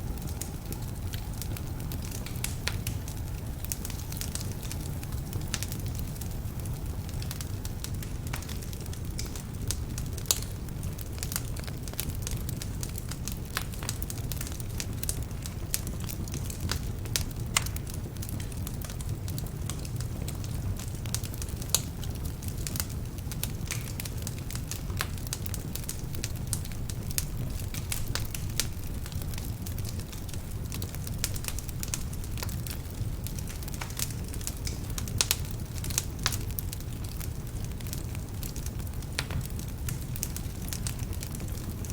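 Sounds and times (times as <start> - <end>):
logs crackling and popping: 0.0 - 41.9
low rumble of flame: 0.0 - 41.9.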